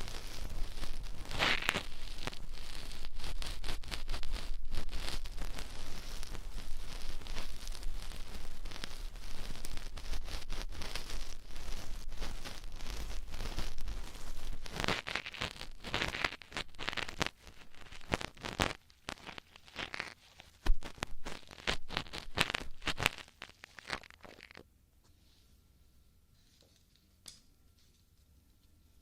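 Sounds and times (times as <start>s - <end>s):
crackly clicks: 0.0s - 24.6s.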